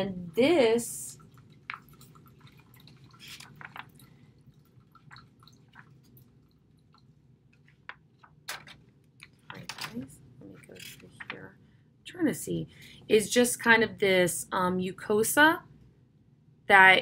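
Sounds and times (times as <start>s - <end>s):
low steady room hum: 0.0s - 17.0s.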